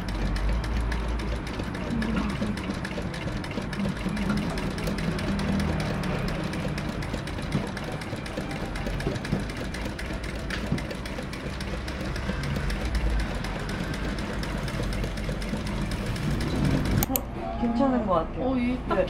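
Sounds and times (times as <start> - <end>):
sewing machine running: 0.0 - 17.2.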